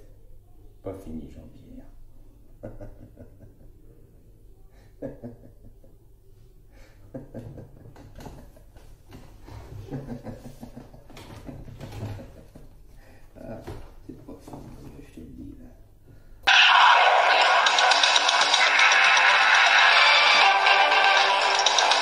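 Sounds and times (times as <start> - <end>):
room hum: 1.6 - 22.0.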